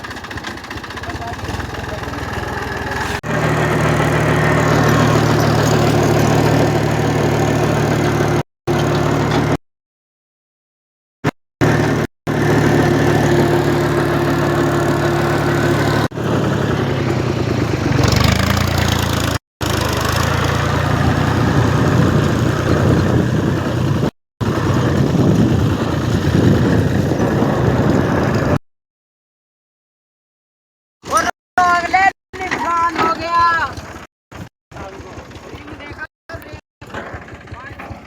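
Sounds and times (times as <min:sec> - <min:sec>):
tractor engine running: 0:00.0 - 0:09.6, 0:11.2 - 0:28.6, 0:31.6 - 0:38.0.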